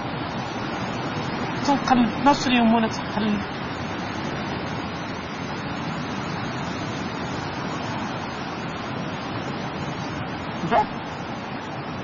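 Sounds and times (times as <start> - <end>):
sea surf washing in: 0.0 - 12.0.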